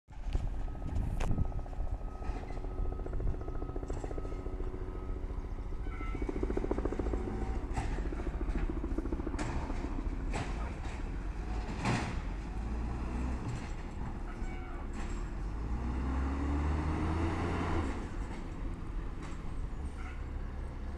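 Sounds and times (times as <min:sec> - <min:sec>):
diesel engine rumbling: 0:00.1 - 0:20.9.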